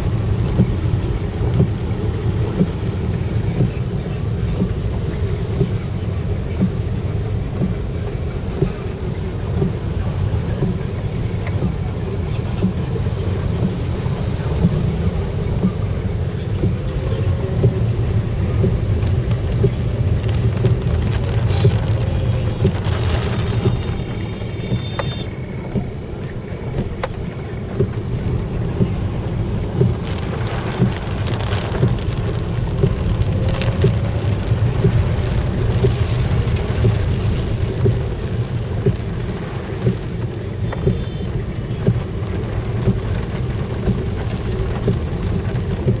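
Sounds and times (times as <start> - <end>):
rain hissing: 0.0 - 46.0
road and engine rumble: 0.0 - 46.0.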